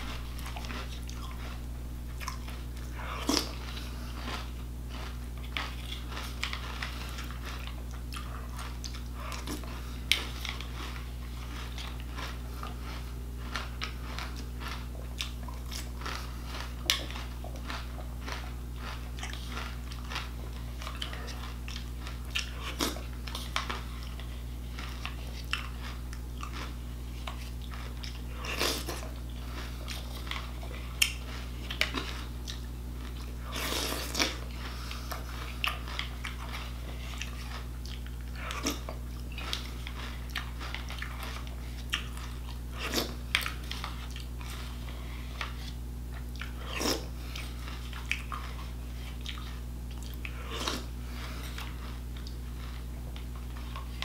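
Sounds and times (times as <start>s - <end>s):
cereal chewing and crunching: 0.0s - 54.0s
low hum: 0.0s - 54.0s.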